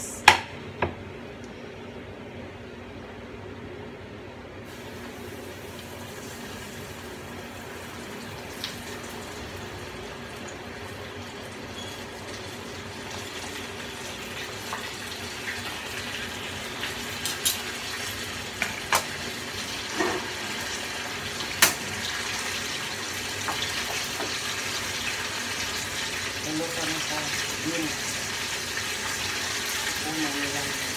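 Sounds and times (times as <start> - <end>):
chicken sizzling in hot oil: 4.7 - 30.9.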